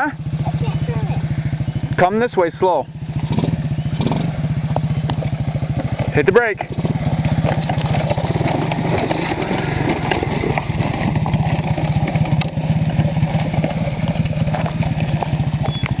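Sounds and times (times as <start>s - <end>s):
atv engines running: 0.0s - 16.0s
loose rock crunching under tyres: 2.9s - 16.0s.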